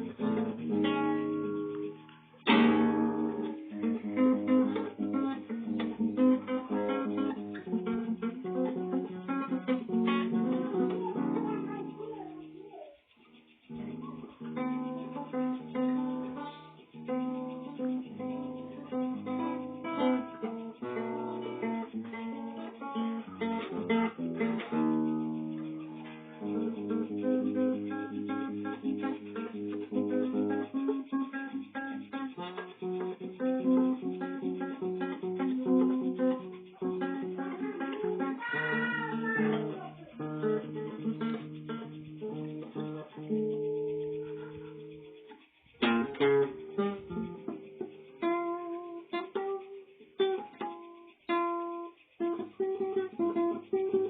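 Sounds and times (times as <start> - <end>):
acoustic guitar playing: 0.0 - 54.0.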